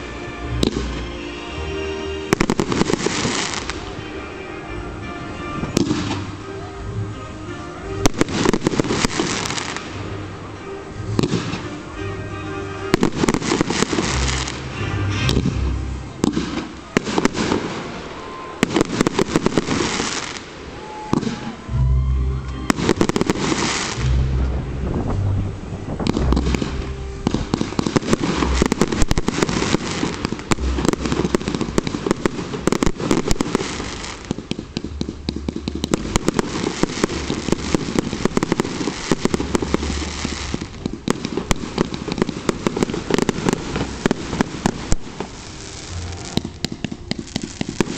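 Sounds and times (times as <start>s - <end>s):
firework crackling and popping: 0.0s - 1.2s, 2.2s - 4.2s, 5.4s - 6.4s, 8.0s - 11.9s, 12.8s - 21.7s, 22.5s - 47.9s.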